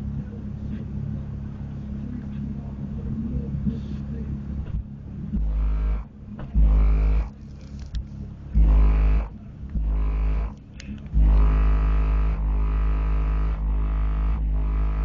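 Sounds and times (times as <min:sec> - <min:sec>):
car subwoofer bass: 0:00.0 - 0:15.0.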